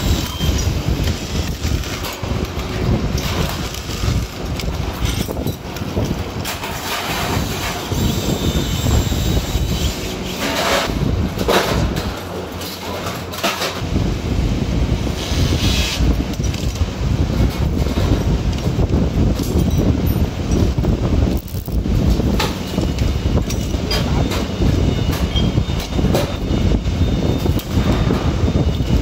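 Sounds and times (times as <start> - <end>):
machine low rumble: 0.0 - 29.0.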